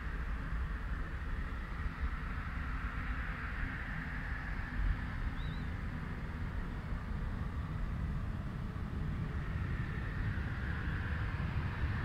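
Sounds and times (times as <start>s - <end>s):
distant airport rumble: 0.0s - 12.0s
wind buffeting microphone: 0.0s - 12.0s.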